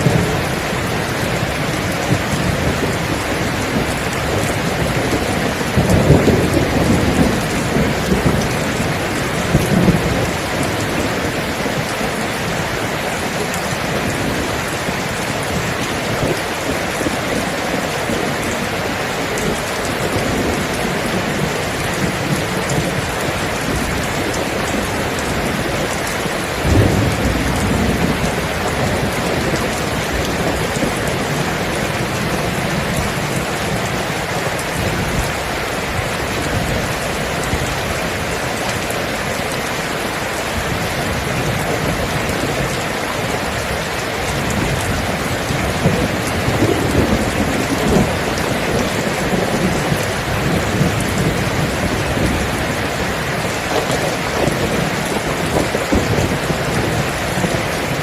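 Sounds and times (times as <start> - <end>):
heavy rain falling: 0.0 - 58.0
thunder rumbling: 0.0 - 58.0.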